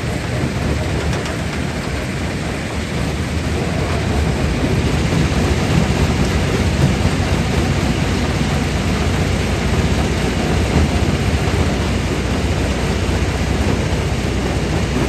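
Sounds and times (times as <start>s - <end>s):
rock crusher rumbling: 0.0s - 15.0s.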